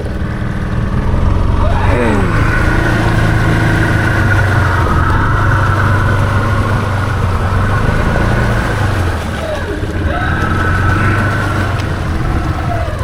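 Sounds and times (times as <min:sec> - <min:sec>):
atv engine under load: 0:00.0 - 0:13.0
high-pitched whine: 0:00.0 - 0:13.0.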